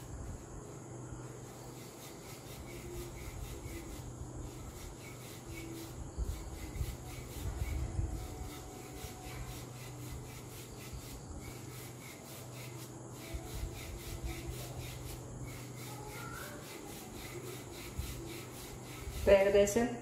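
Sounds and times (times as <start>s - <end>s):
rolling pin rubbing over dough: 0.0s - 19.8s
steady low hum: 0.0s - 20.0s.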